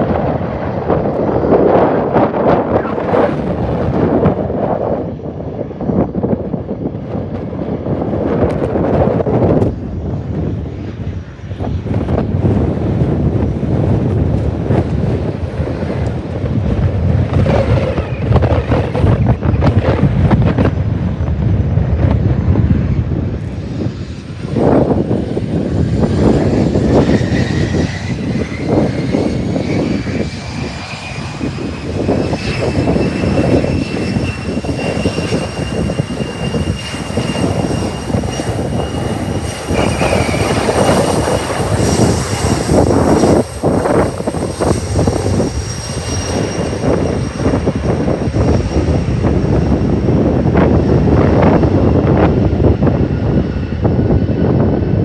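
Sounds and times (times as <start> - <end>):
high engine whine: 0.0 - 55.0
jet engines rumbling: 0.0 - 55.0
wind buffeting microphone: 0.0 - 55.0.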